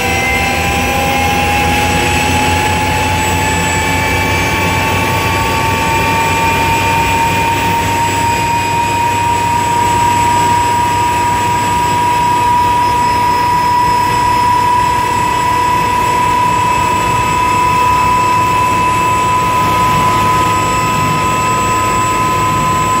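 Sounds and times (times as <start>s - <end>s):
turbine engine whine: 0.0s - 23.0s.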